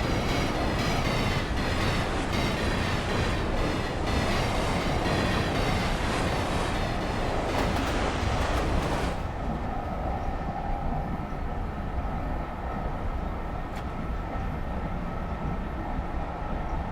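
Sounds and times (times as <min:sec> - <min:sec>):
train rumbling on track: 0:00.0 - 0:16.9.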